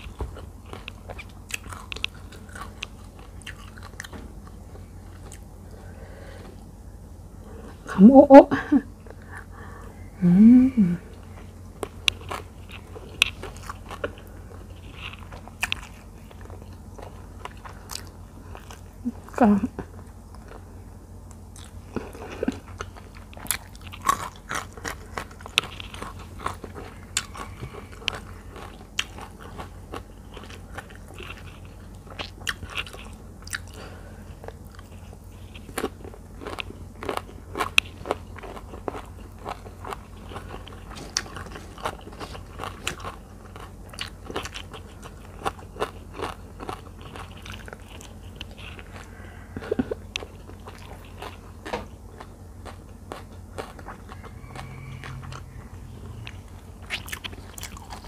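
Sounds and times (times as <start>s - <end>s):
crisp chewing crunches: 0.0s - 5.8s, 11.2s - 20.7s, 21.3s - 58.0s
steady low hum: 0.0s - 58.0s.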